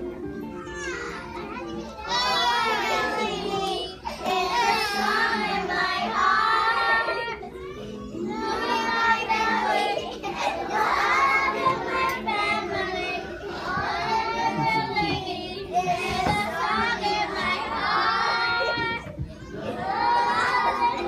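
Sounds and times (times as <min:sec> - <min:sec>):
children singing: 0:00.0 - 0:21.0.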